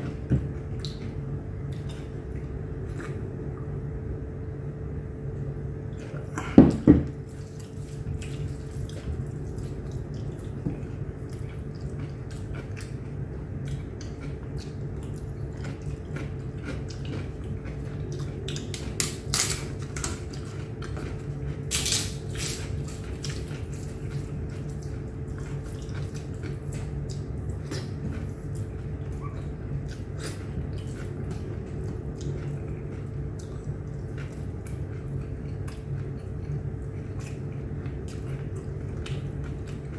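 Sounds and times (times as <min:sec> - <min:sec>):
chewing: 0:00.0 - 0:03.7, 0:07.3 - 0:39.9
steady low hum: 0:00.0 - 0:39.9.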